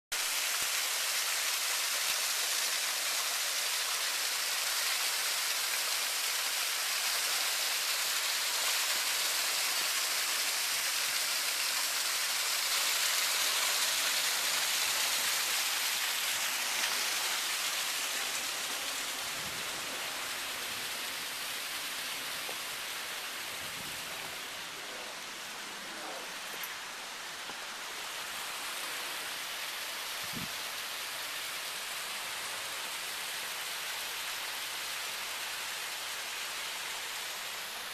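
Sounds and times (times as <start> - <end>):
waterfall rushing and splashing: 0.2 - 37.9.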